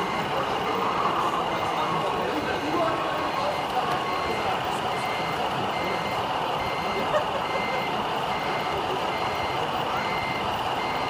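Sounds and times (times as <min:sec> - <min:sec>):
hall hubbub: 0:00.0 - 0:11.0
short high reversing beeps: 0:00.0 - 0:11.0.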